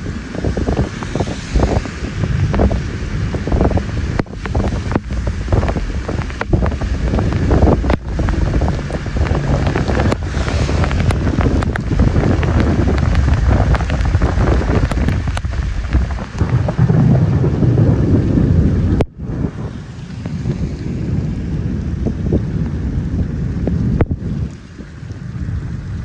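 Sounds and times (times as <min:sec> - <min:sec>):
rain falling: 0:00.0 - 0:26.0
wind gusting across microphone: 0:00.0 - 0:26.0.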